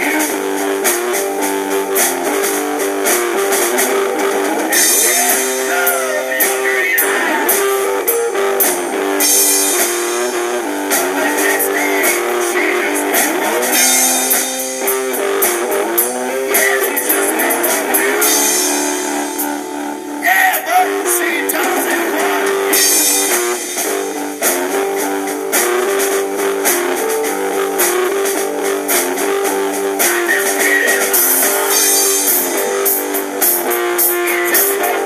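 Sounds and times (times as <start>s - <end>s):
blues-rock band playing: 0.0s - 35.0s
guitar with bent sliding notes: 0.0s - 35.0s.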